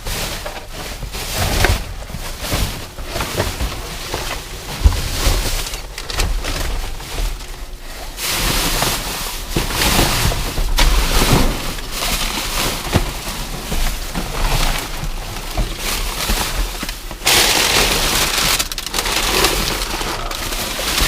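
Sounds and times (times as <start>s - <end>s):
items knocking in a dumpster: 0.0s - 21.0s.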